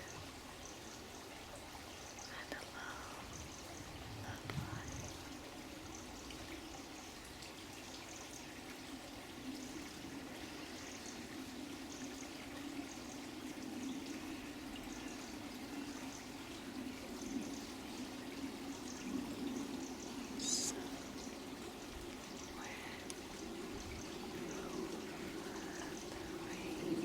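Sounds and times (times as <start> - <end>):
stream of running water: 0.0 - 27.0.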